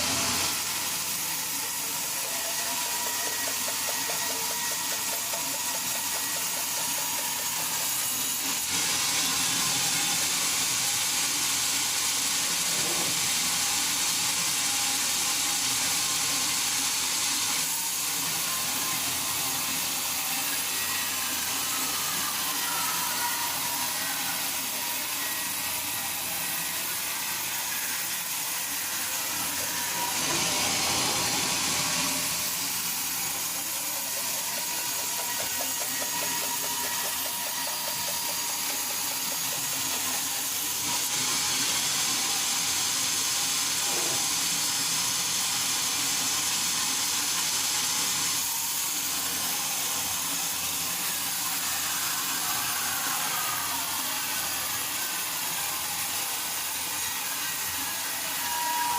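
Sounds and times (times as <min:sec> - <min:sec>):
sawmill saw and machinery hissing: 0:00.0 - 0:58.9.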